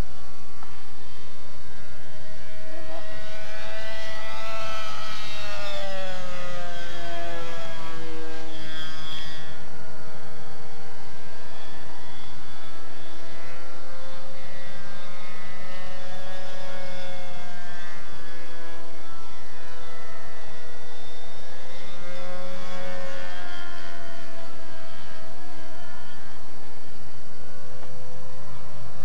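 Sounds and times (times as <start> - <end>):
model plane engine buzzing: 0.0 - 29.0.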